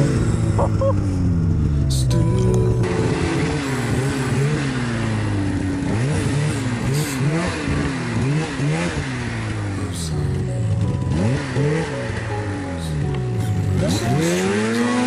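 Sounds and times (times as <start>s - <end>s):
snowmobile engine revving: 0.0s - 2.0s, 2.8s - 15.0s.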